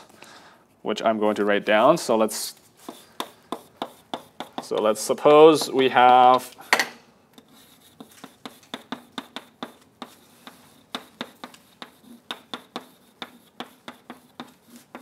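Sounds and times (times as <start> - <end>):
chalk tapping and scratching on blackboard: 1.2 - 15.0.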